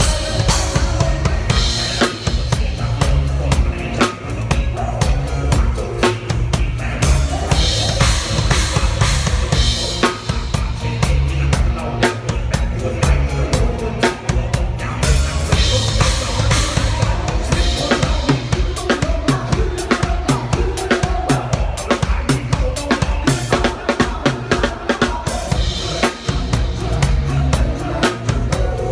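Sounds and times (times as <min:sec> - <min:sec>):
drum kit playing a beat: 0:00.0 - 0:28.9
pop song: 0:00.0 - 0:28.9.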